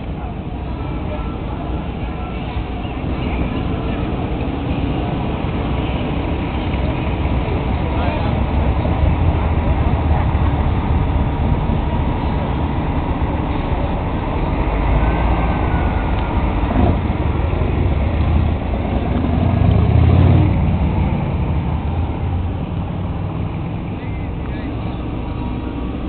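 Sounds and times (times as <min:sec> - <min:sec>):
car engine rumble: 0:00.0 - 0:26.0
road noise: 0:00.0 - 0:26.0.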